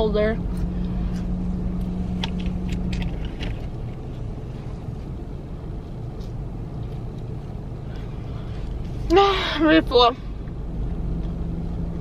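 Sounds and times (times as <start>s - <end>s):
low rumble inside car cabin: 0.0s - 12.0s
steady hum: 0.0s - 12.0s.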